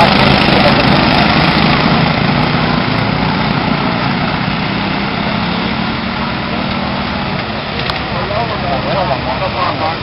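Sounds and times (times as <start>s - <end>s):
lawn mower engines droning: 0.0s - 10.0s.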